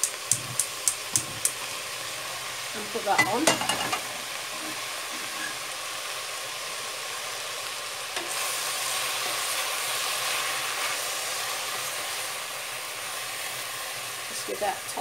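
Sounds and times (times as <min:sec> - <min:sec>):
spinach sizzling in saucepan: 0:00.0 - 0:15.0.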